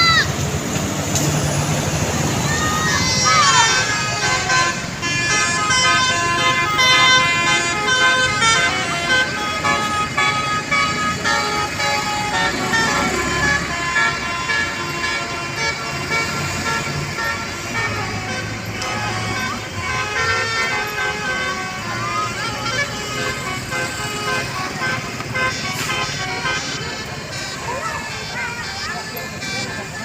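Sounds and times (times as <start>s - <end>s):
bus engine low rumble: 0.0s - 30.0s
bus musical air horn tune: 1.0s - 30.0s.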